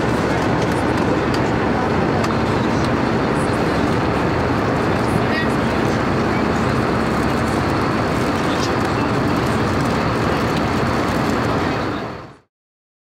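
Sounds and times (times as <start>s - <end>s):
airplane cabin engine noise: 0.0s - 12.5s.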